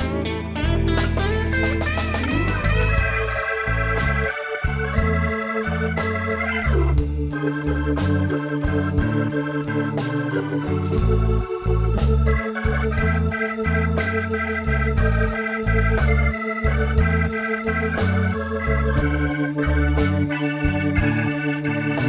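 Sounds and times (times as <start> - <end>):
organ music with bass and beat: 0.0 - 22.0.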